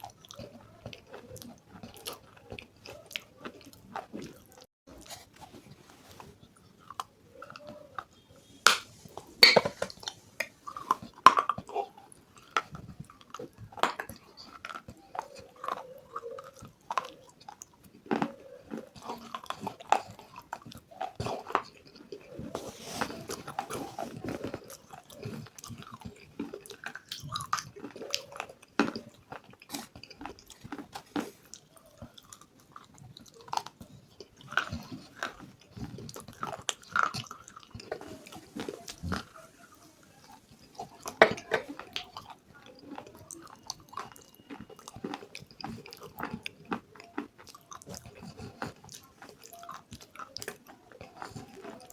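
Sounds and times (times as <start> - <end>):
close chewing and crunching: 0.0 - 51.9.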